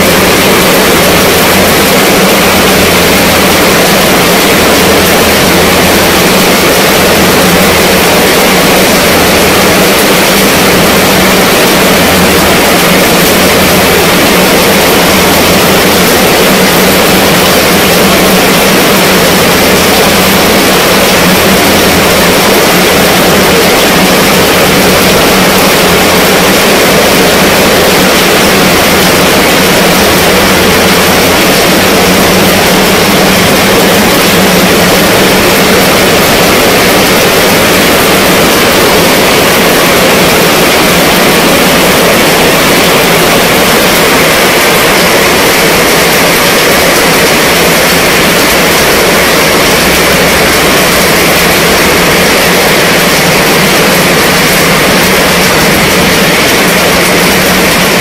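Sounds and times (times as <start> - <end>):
heavy rain on fabric canopy: 0.0 - 58.0.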